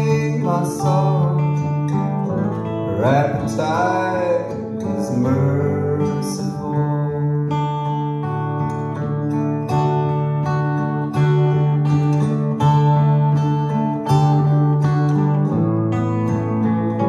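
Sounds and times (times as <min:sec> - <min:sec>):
acoustic guitar: 0:00.0 - 0:17.0
electric guitar: 0:00.0 - 0:17.0.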